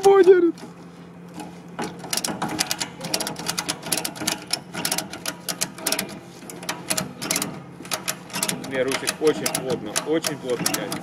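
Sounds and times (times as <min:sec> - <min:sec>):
ratchet strap clicking: 0:01.3 - 0:11.0.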